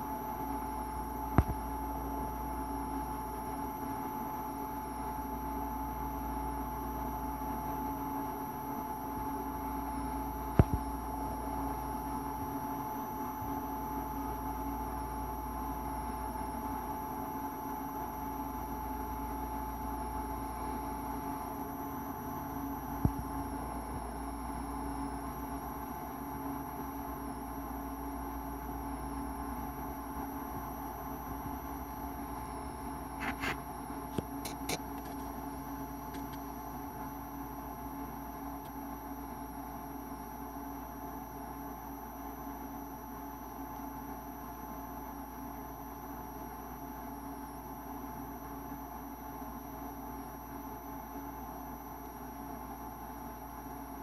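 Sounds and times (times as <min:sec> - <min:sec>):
electrical hum: 0:00.0 - 0:54.0
faint high whine: 0:00.0 - 0:54.0.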